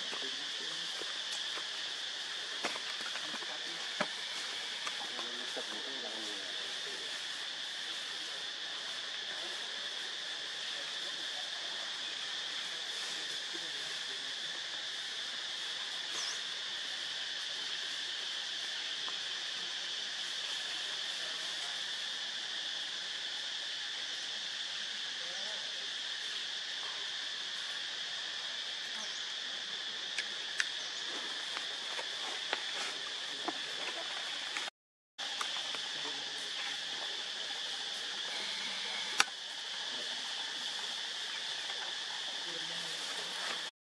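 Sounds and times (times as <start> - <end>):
background hiss: 0.0 - 43.7
high-pitched insect drone: 0.0 - 43.7.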